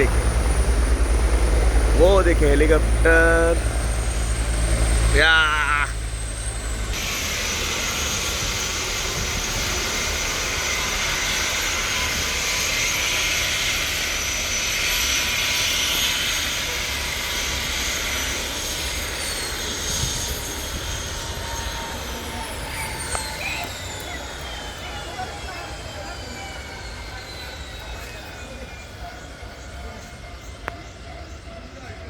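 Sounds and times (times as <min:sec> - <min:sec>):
helicopter running: 0:00.0 - 0:32.0.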